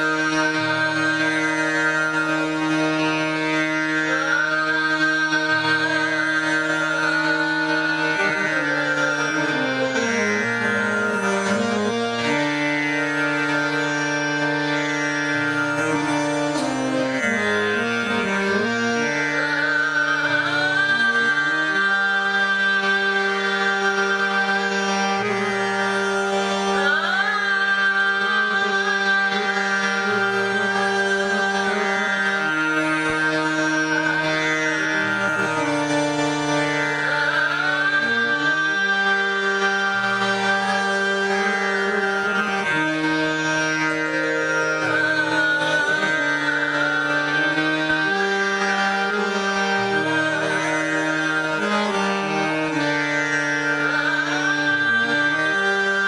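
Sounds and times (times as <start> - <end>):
harmonium: 0.0 - 56.0
tanpura drone: 0.0 - 56.0.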